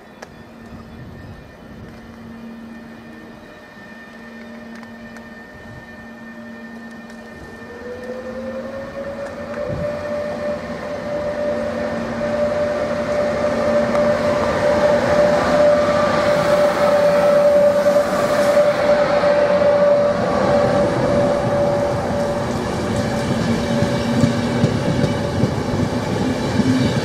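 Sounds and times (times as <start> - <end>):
electric locomotive whine: 0.0 - 27.0
wheels rumbling on rails: 0.0 - 27.0.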